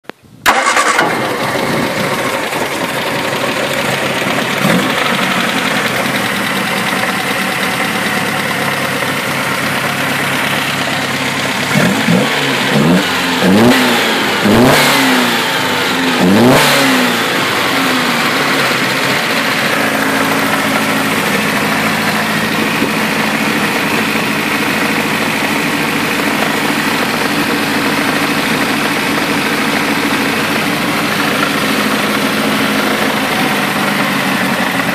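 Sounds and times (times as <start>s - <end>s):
car engine idling and revving: 0.4s - 34.9s.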